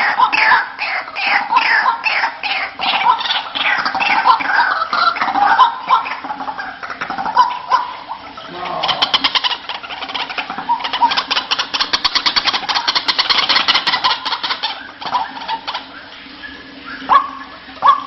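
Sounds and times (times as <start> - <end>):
waterhen harsh pulsing call: 0.0 - 18.0.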